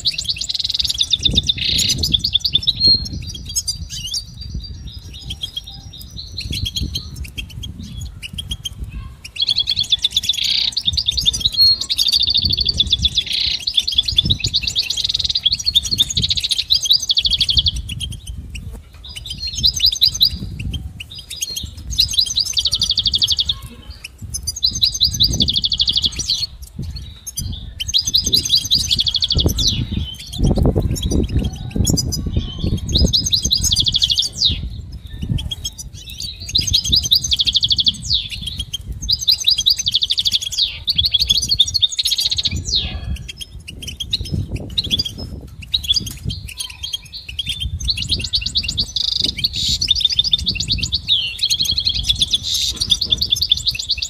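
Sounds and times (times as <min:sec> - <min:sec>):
goldfinch singing: 0:00.0 - 0:54.0.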